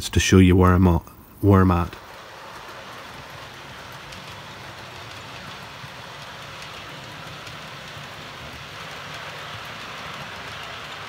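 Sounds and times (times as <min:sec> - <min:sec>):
wheels rolling on track: 0:00.0 - 0:11.0
model train motor whirring: 0:01.2 - 0:11.0.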